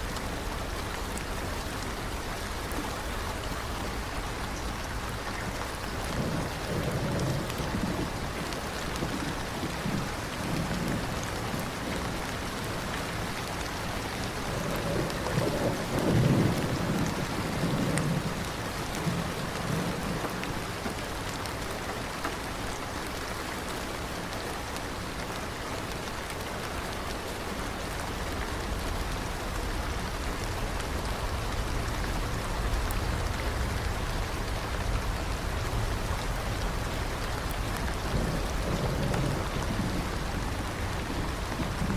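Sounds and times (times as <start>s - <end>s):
rain falling: 0.0s - 41.9s
thunder rumbling: 0.3s - 21.2s, 28.2s - 41.9s.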